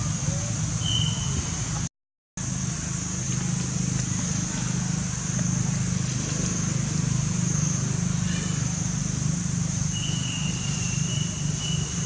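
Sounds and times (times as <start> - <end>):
high steady hiss: 0.0 - 12.0
low engine rumble: 0.0 - 12.0.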